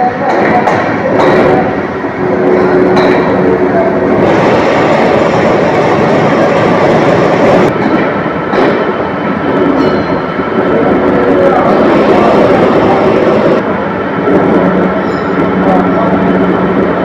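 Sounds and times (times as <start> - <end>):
lathe mechanical rumble: 0.0 - 17.0.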